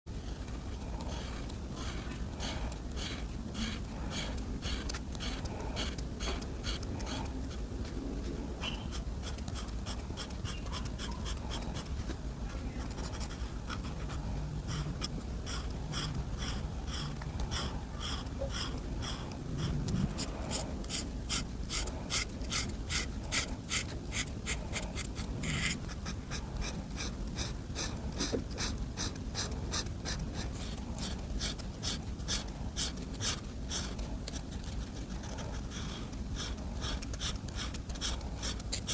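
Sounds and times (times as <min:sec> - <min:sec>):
coloring strokes scratching paper: 0:00.2 - 0:38.9.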